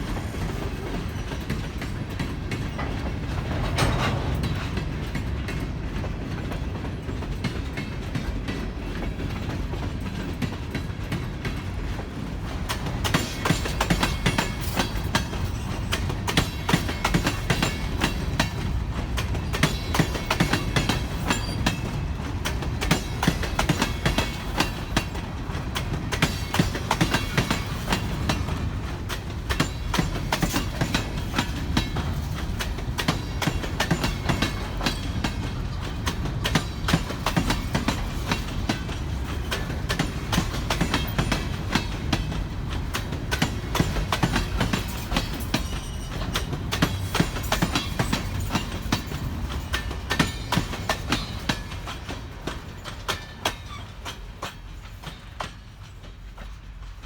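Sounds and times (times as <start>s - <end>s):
train rumbling past: 0.0s - 57.0s
wheels clacking over rail joints: 0.1s - 57.0s.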